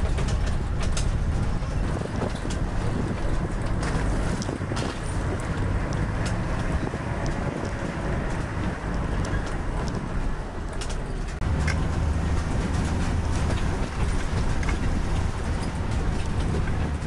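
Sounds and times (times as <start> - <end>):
clicks and rattles: 0.0 - 17.0
engine and tyre rumble: 0.0 - 17.0
wind noise: 0.0 - 17.0.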